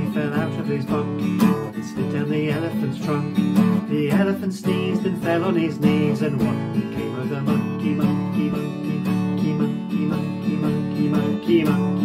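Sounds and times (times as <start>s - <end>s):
guitar strumming: 0.0s - 12.0s.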